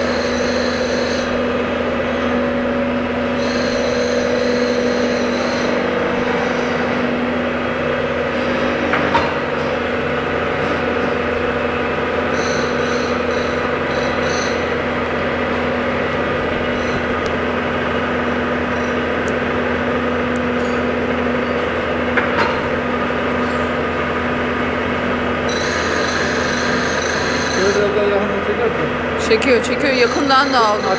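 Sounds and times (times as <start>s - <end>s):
grinding wheel grinding metal: 0.0s - 30.9s
sharpening machine motor humming: 0.0s - 30.9s.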